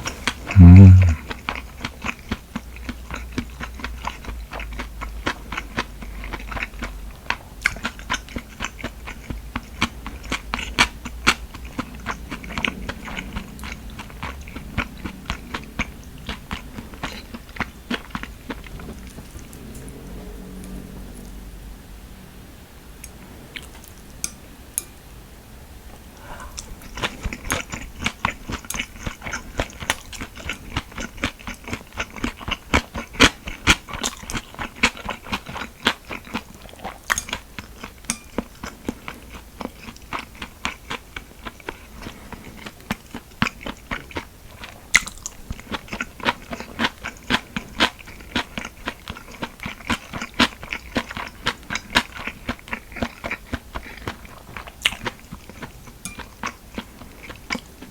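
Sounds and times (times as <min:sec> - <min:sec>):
person chewing and crunching food: 0:00.0 - 0:20.8, 0:26.4 - 0:57.9.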